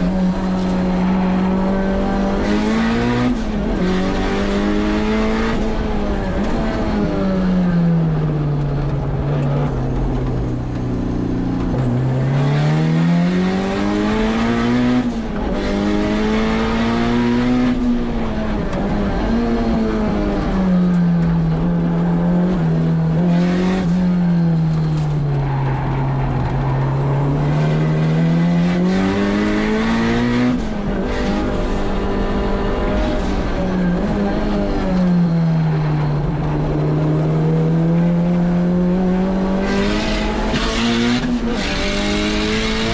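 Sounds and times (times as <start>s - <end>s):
car engine revving through gears: 0.0s - 42.9s.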